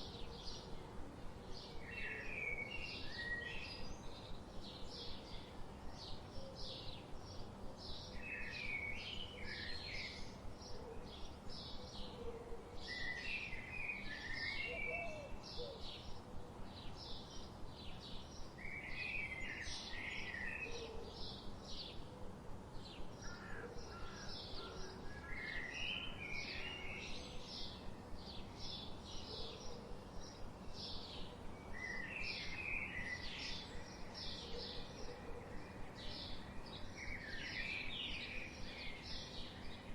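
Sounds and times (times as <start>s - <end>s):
warbled bird song: 0.0s - 39.9s.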